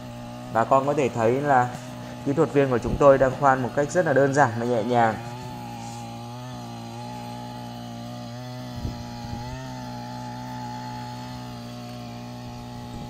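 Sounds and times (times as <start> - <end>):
two-stroke auger engine running: 0.0 - 13.0.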